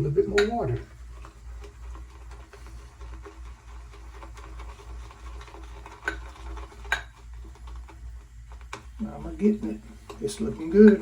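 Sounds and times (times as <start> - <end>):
shaving brush swirling lather: 0.0 - 11.0.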